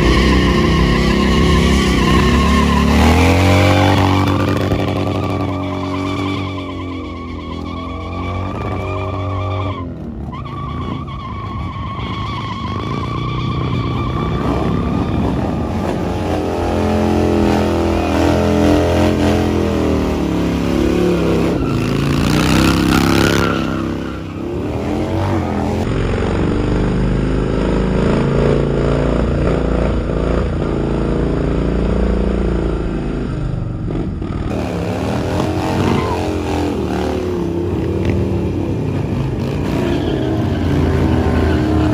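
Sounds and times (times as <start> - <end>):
motorcycle engines revving: 0.0 - 41.9.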